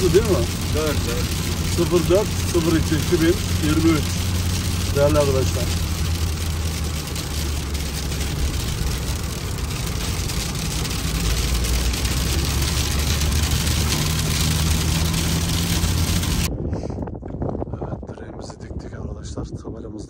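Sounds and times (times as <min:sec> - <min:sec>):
car engine hum: 0:00.0 - 0:16.5
road noise on wet road: 0:00.0 - 0:16.5.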